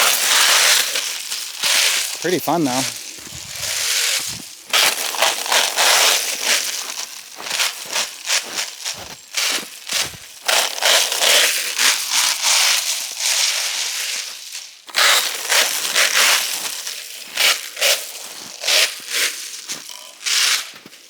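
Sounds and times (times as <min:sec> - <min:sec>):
footsteps crunching slushy snow: 0:00.0 - 0:21.0.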